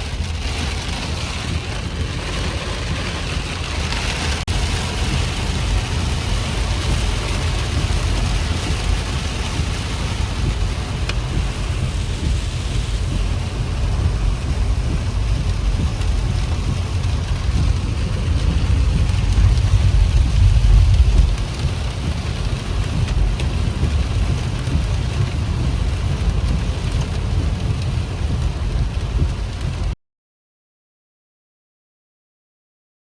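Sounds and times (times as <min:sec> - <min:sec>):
thunder rumbling: 0:00.0 - 0:29.9
heavy rain falling: 0:00.0 - 0:30.0
wind rumble: 0:00.0 - 0:30.0.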